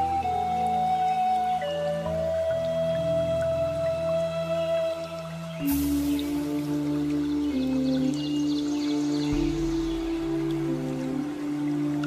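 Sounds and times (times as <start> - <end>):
slow new-age music: 0.0 - 12.0.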